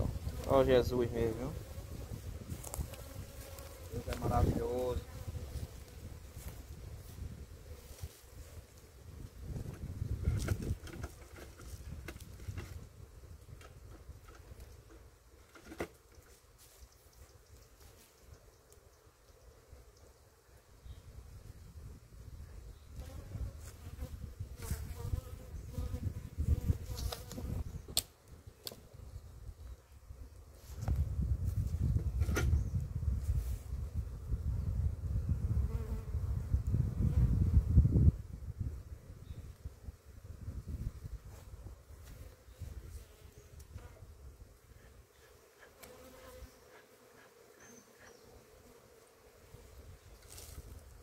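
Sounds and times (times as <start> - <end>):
honeybees buzzing: 0.0 - 33.1, 33.7 - 51.0.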